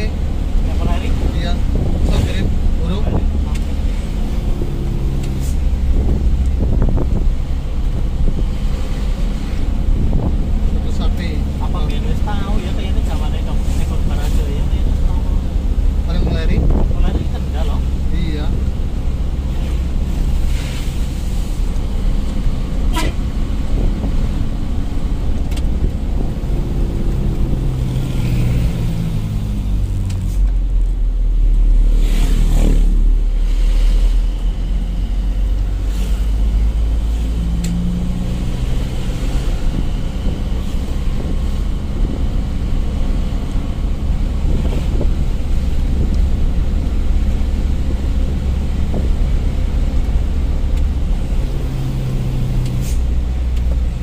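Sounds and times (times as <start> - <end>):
truck engine rumble: 0.0 - 54.0.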